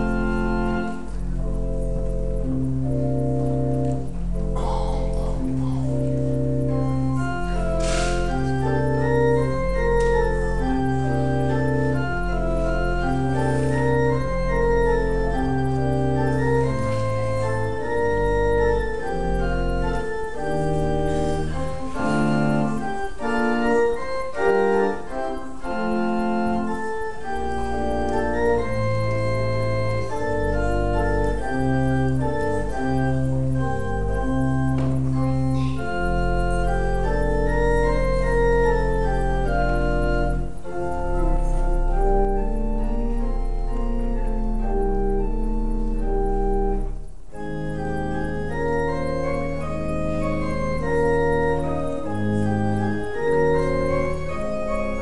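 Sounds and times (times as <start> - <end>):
organ pedal bass line: 0.0 - 55.0
pipe organ chords: 0.0 - 55.0.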